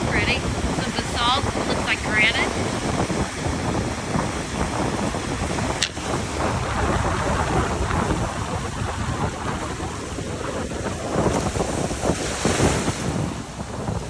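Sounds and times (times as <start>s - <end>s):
waves washing on stony shore: 0.0s - 14.0s
wind buffeting microphone: 0.0s - 14.0s.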